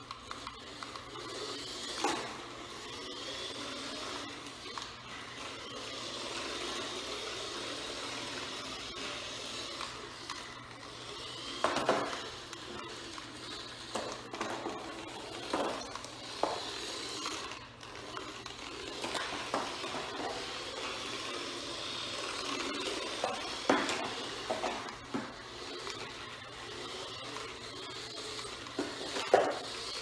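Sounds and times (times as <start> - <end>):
toy car electric motor whining: 0.0 - 30.0
toy car knocks and clatters: 0.0 - 30.0.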